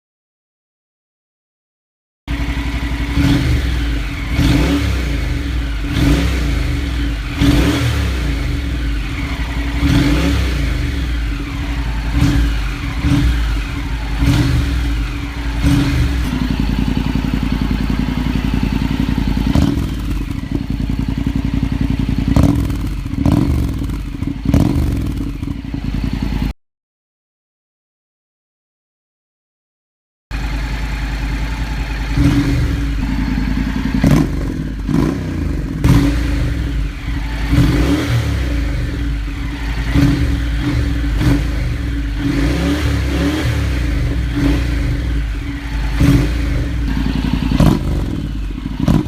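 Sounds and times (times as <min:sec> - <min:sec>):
motorcycle engine idling and revving: 0:02.3 - 0:26.6, 0:30.3 - 0:49.0.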